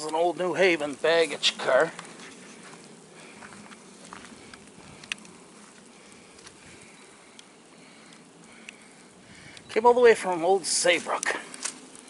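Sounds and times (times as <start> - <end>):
sleet pattering: 0.0 - 12.0.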